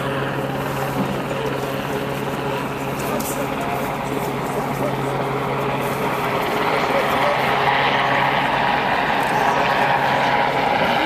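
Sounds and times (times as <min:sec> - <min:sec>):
helicopter rotor and turbine: 0:00.0 - 0:11.0.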